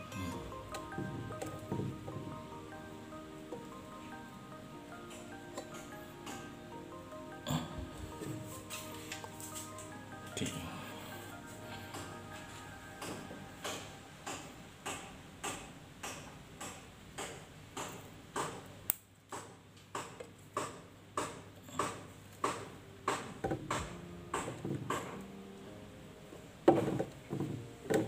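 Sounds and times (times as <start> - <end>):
soft ticking beat music: 0.0 - 16.8, 21.8 - 28.0.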